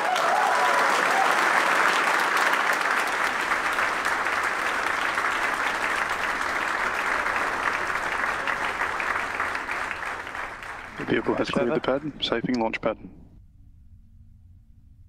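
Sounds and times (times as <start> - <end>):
crowd clapping and cheering: 0.0 - 12.6.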